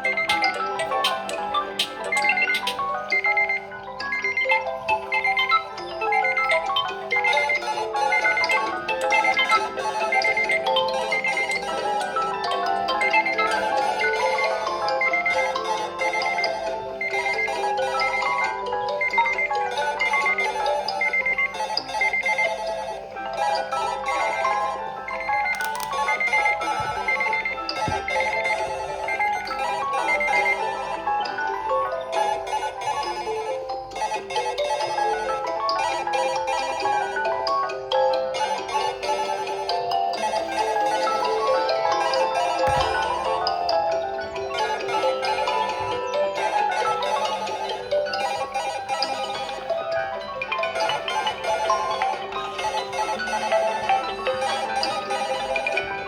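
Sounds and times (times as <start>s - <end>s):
electronic marimba ringtone melody: 0.0s - 56.0s.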